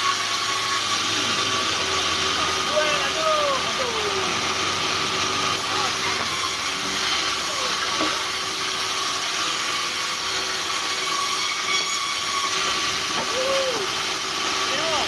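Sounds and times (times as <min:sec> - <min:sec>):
band saw hissing: 0:00.0 - 0:15.0.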